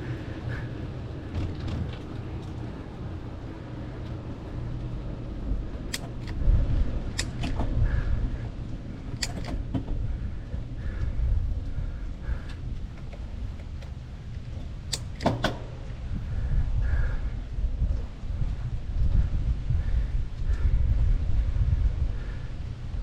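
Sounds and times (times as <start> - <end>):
bicycle tyres rumbling: 0.0 - 23.0
bike clicks and rattles: 0.0 - 23.0.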